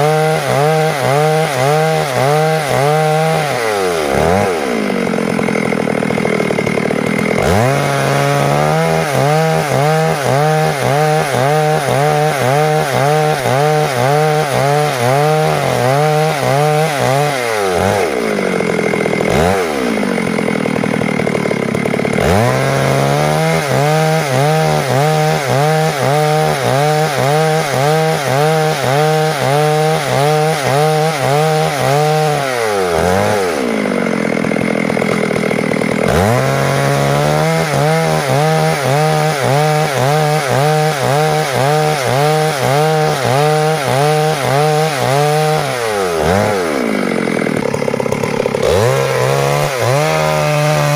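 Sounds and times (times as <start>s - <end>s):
chainsaw cutting wood: 0.0s - 50.9s
chainsaw revving high: 0.0s - 50.9s.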